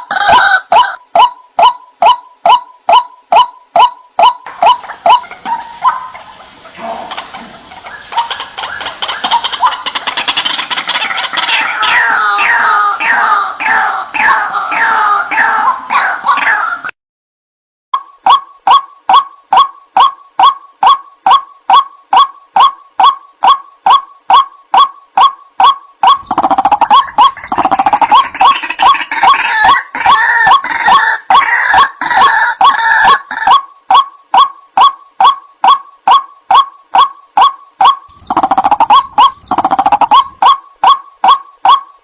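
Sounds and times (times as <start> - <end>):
harsh chatter of calls: 0.0 - 16.9, 22.1 - 41.8
waterhen calling: 0.0 - 16.9, 18.2 - 42.0.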